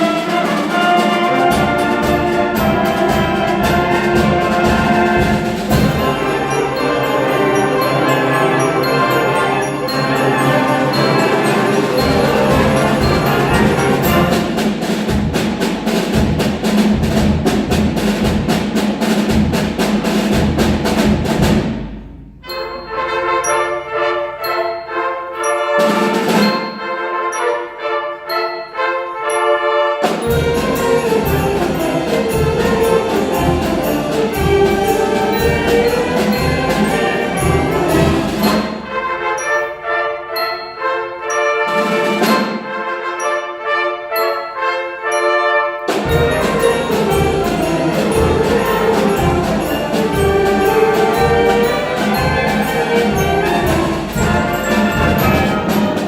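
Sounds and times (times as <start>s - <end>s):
drums: 0.0s - 27.1s, 30.0s - 39.8s, 41.2s - 42.8s, 45.8s - 56.0s
concert band playing: 0.0s - 56.0s.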